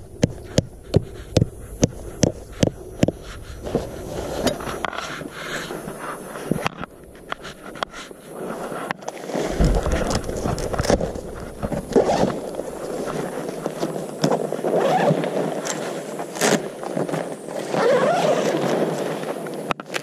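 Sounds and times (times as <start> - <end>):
nylon tent fabric rustling: 2.0 - 19.7.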